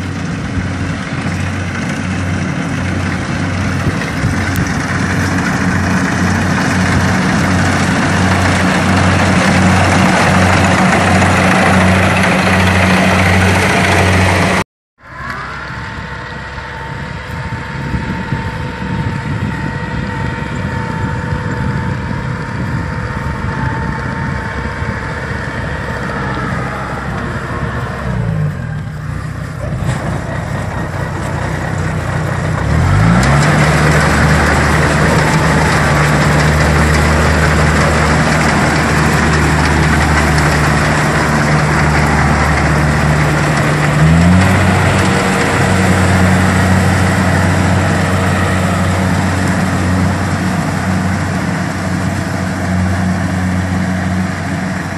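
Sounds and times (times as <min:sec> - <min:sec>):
combine harvester engine running: 0:00.0 - 0:54.9
rushing noise: 0:00.0 - 0:54.9.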